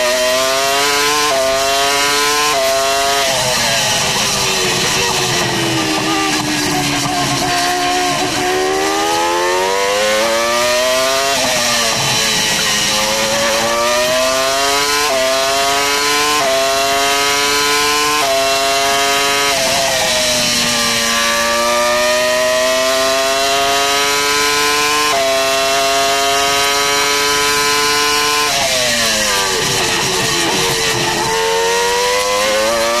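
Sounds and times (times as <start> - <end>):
racing car engine revving: 0.0 - 33.0.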